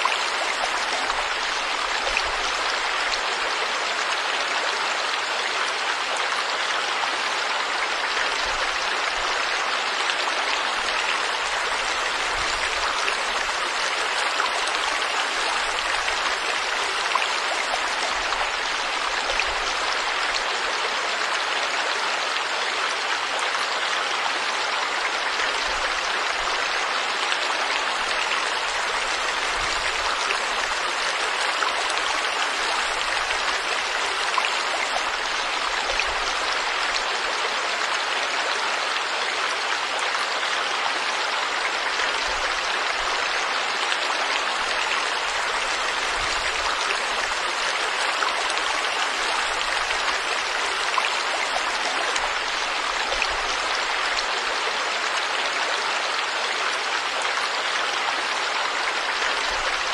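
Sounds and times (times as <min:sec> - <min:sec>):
stream water flowing over rocks: 0:00.0 - 0:59.9.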